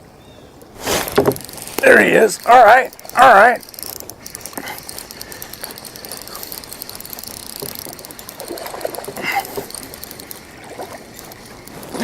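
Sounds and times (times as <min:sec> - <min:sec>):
fishing reel clicking: 0:01.1 - 0:12.0.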